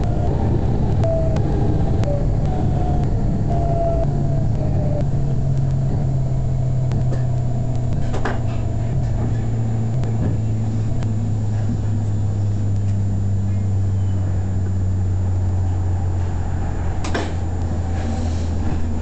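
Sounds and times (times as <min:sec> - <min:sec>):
tram motor hum: 0:00.0 - 0:19.0.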